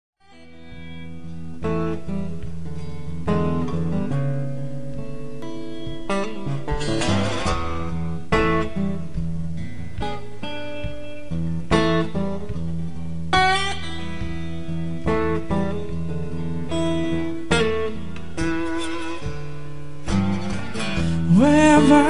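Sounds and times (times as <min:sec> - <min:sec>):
acoustic guitar strumming: 0:00.2 - 0:22.0.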